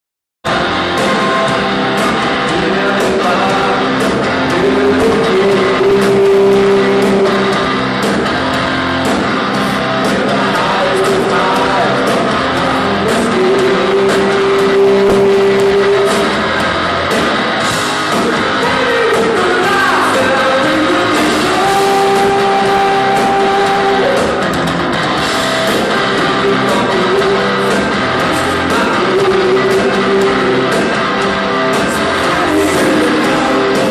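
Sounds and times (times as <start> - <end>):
rock band playing live: 0.4 - 33.9.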